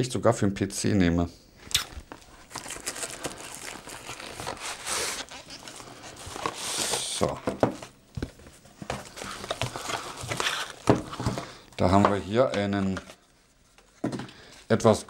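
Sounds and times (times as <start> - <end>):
cardboard and plastic rustling: 2.0 - 15.0.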